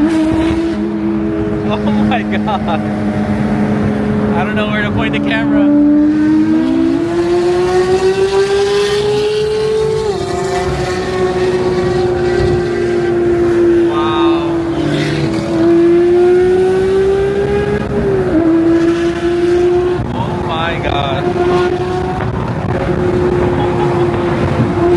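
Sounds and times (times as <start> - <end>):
car engine revving high: 0.0 - 24.9.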